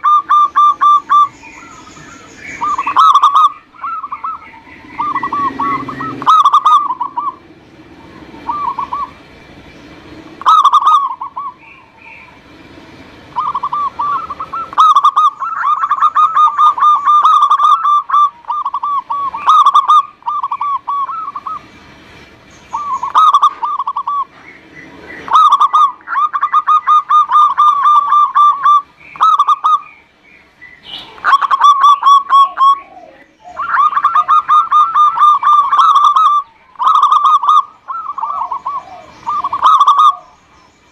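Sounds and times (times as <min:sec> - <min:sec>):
dove cooing: 0:00.0 - 0:21.8, 0:22.7 - 0:30.0, 0:30.9 - 0:40.6.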